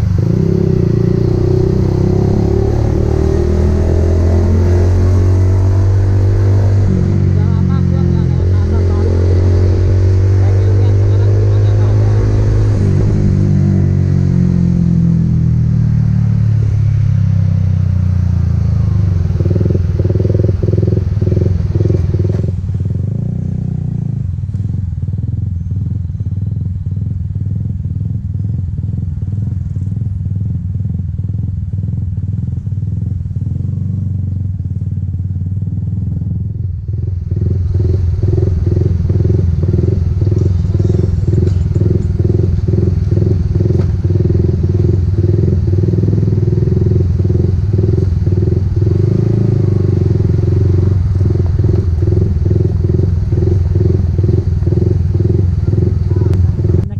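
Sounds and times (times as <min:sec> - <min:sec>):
motorcycle engine idling: 0:05.1 - 0:09.3, 0:10.4 - 0:56.9.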